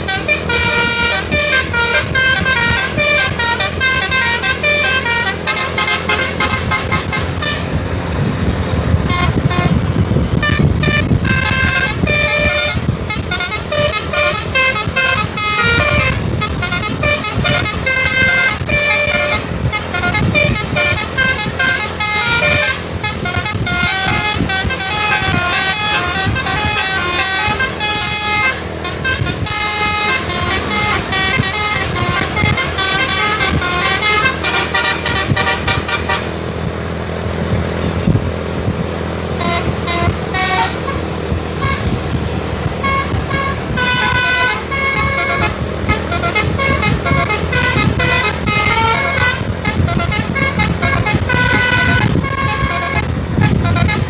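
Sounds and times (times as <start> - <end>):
musical air horn melodies: 0.0 - 38.0, 38.6 - 54.0
steady traffic noise: 0.0 - 54.0.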